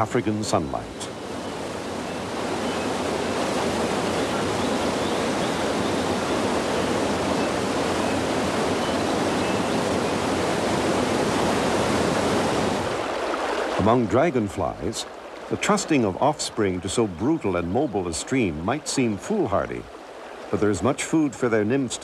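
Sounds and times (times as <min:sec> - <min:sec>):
fast-flowing water rushing: 0:00.0 - 0:22.0.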